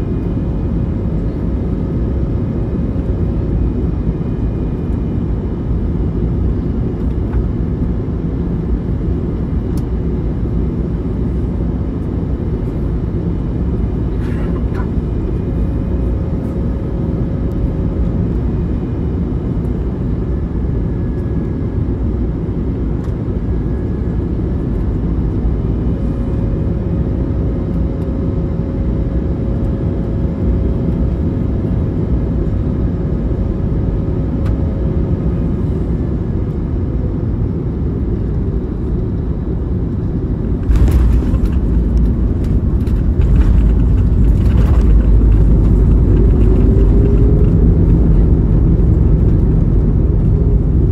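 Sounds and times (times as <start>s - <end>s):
aircraft cabin engine rush: 0.0s - 50.9s
wheels rumbling on runway: 0.0s - 50.9s.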